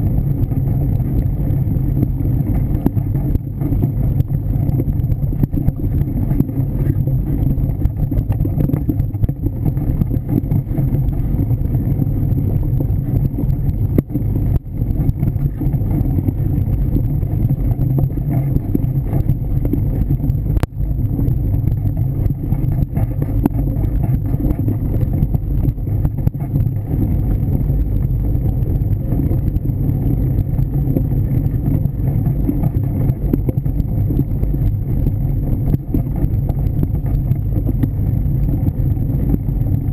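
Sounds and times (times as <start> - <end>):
bike tyre noise and rattle: 0.0 - 39.9
wind buffeting microphone: 0.0 - 39.9.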